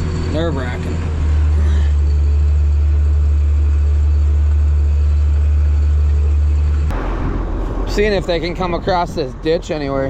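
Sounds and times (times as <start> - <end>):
farm vehicle engine droning: 0.0 - 10.0.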